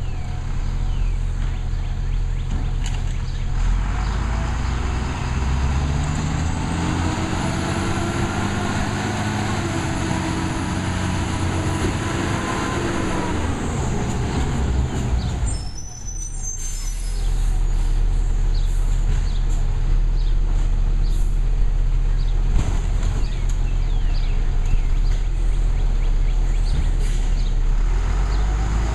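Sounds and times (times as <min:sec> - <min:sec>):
garbage truck diesel engine revving: 0:03.2 - 0:28.9.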